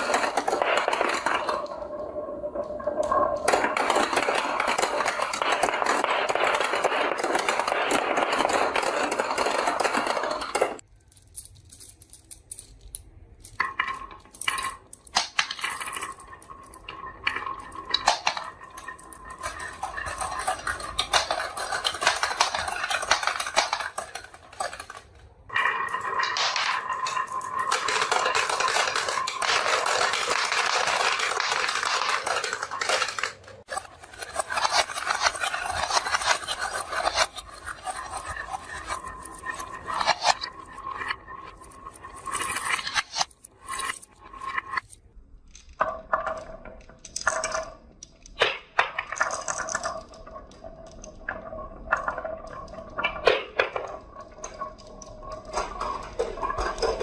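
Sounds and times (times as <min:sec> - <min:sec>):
marbles rattling down wooden run: 0:00.0 - 0:57.0.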